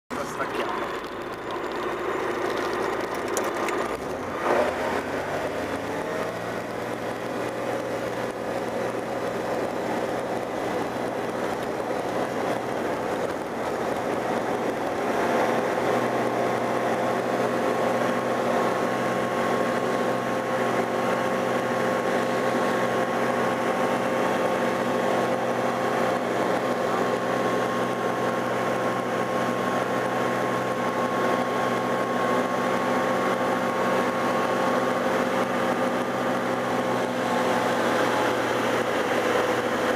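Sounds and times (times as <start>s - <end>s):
light aircraft engine and propeller: 0.1s - 39.9s.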